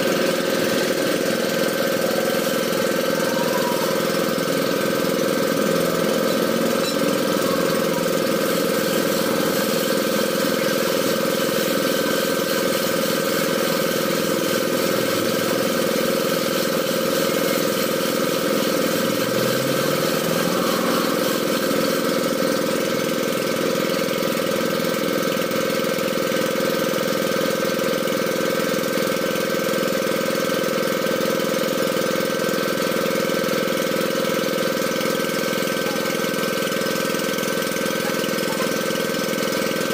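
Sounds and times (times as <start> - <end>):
drilling machine engine humming: 0.0 - 39.9.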